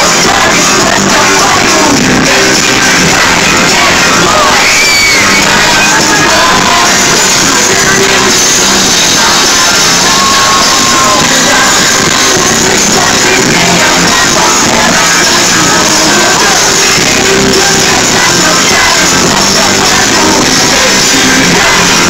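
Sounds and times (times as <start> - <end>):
crowd shouting and singing along: 0.0 - 22.0
loud band music: 0.0 - 22.0.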